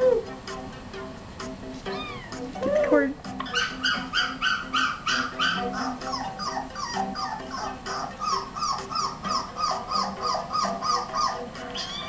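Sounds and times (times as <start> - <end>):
puppy whimpering high yips: 2.0 - 12.0.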